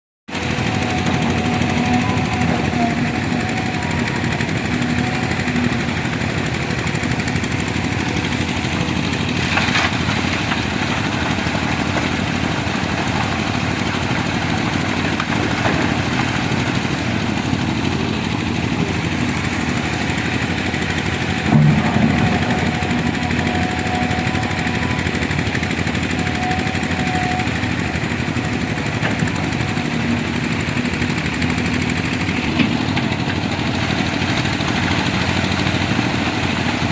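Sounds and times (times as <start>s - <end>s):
excavator diesel engine running: 0.3s - 36.9s.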